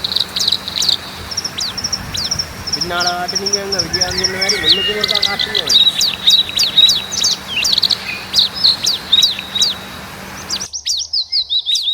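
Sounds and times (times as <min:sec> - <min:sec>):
background hiss: 0:00.0 - 0:10.7
small birds chirping: 0:00.0 - 0:11.9.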